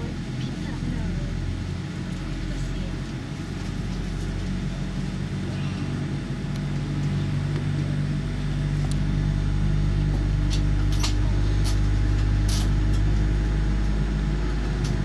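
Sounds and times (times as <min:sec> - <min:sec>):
jet engine low rumble: 0:00.0 - 0:15.0.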